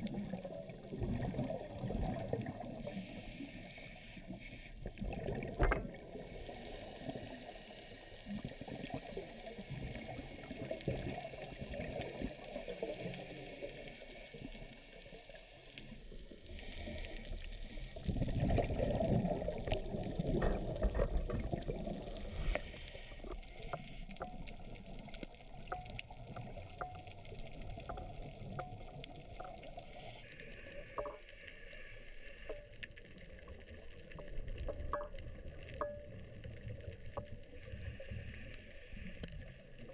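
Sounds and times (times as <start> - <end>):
muffled underwater rumble: 0.0 - 39.9.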